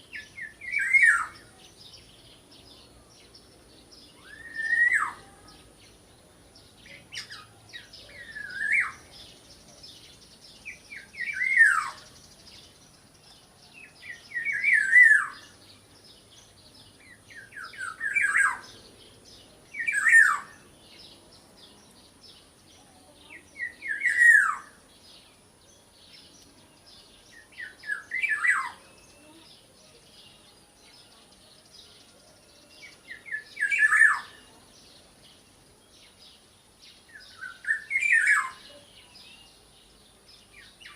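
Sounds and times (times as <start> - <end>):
faint high twittering: 0.0 - 40.9.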